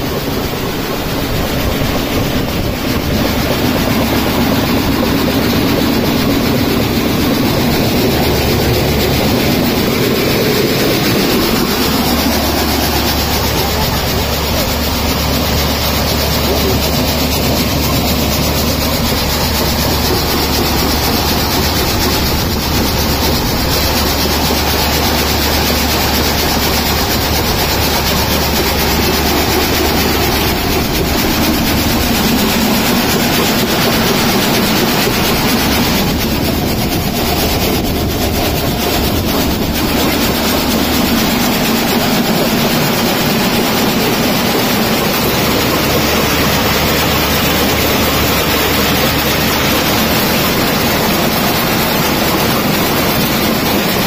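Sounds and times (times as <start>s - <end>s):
peanut sheller running: 0.0s - 54.0s
tractor engine: 0.0s - 54.0s.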